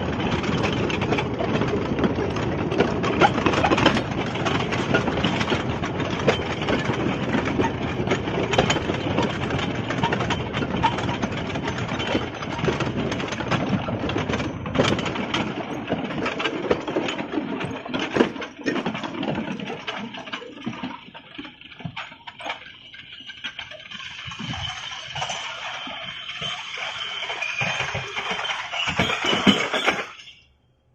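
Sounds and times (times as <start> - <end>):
locomotive wheels clattering on rails: 0.0 - 30.6.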